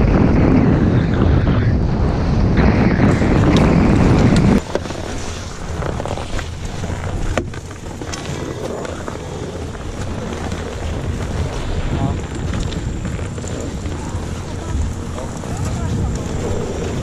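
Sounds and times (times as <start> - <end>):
wind rushing over microphone: 0.0 - 17.0
ski-lift queue noise: 3.1 - 17.0
skis and poles clicking: 3.1 - 17.0.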